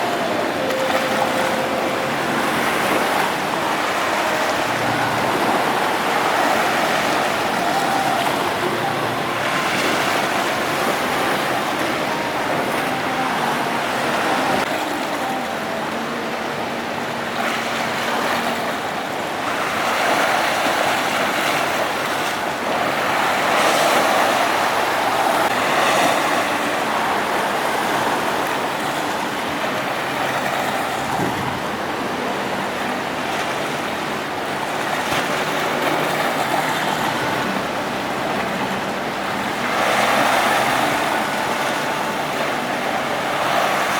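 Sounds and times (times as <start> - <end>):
strong wind: 0.0 - 43.9
waves breaking: 0.0 - 43.9.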